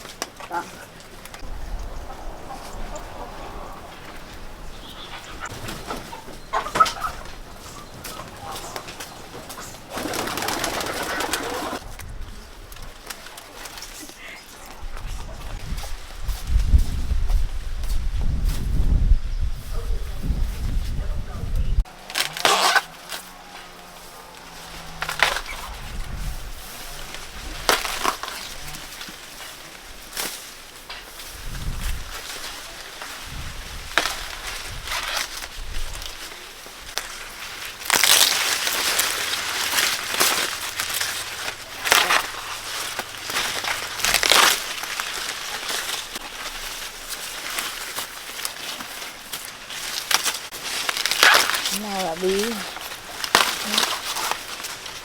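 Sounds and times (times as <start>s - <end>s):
corn ears snapping off stalks: 0.0s - 18.7s, 21.9s - 55.0s
leaf rustle: 0.0s - 55.0s.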